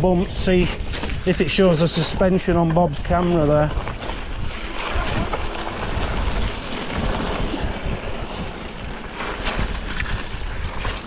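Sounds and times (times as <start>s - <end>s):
tyres crunching on wet gravel: 0.0s - 11.0s
wind rumbling on microphone: 0.0s - 11.0s.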